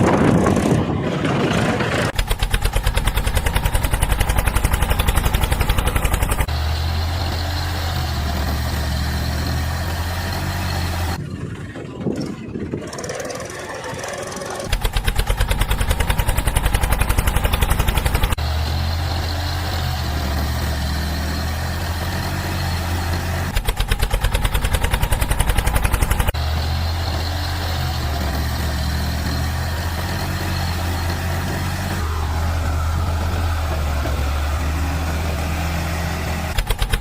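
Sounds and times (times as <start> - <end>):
tractor diesel engine chugging: 0.2 - 37.0.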